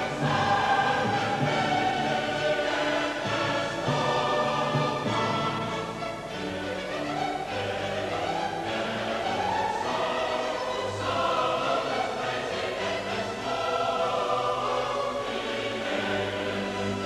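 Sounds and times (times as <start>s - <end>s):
orchestral accompaniment: 0.0s - 17.0s
voices singing held notes: 0.0s - 17.0s.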